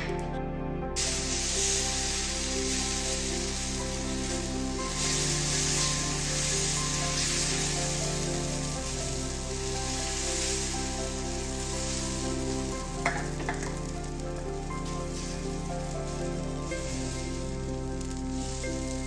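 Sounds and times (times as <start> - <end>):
soft background music: 0.0 - 19.0
food sizzling on a hot pan: 1.0 - 19.0.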